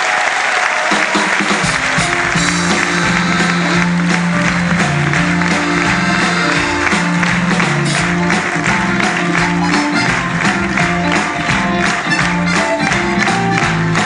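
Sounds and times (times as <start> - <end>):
live band playing upbeat music: 0.7 - 14.0
steady drum beat: 0.9 - 14.0
bass line: 1.7 - 14.0.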